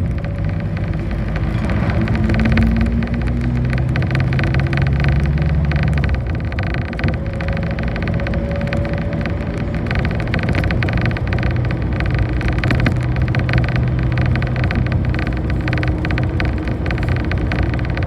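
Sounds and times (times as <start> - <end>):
bus engine drone and road noise: 0.0 - 18.0
small rattles: 0.0 - 18.0.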